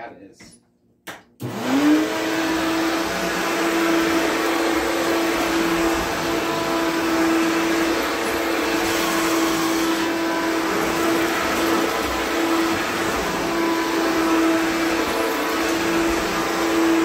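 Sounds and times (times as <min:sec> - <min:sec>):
vacuum cleaner motor whining: 0:01.4 - 0:17.0.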